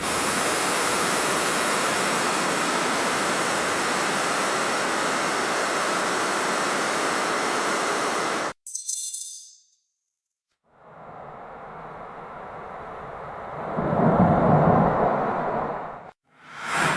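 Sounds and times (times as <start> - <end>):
steady rushing hiss: 0.0 - 8.5, 10.8 - 16.1.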